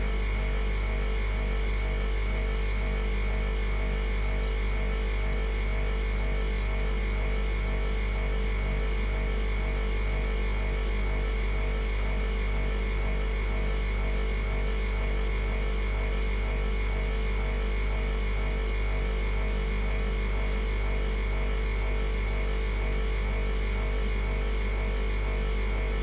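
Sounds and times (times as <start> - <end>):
freezer humming: 0.0 - 26.0.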